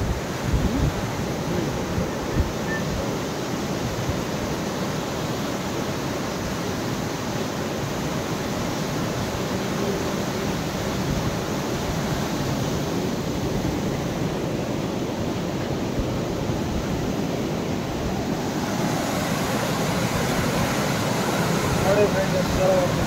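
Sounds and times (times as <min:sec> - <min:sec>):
river rapids rushing: 0:00.0 - 0:23.0.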